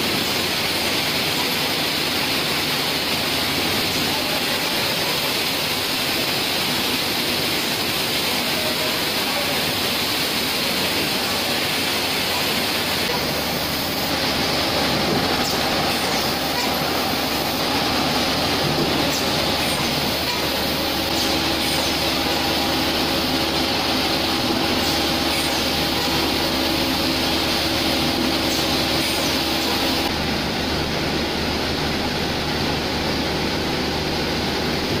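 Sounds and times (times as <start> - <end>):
conveyor machinery hum: 0.0 - 35.0.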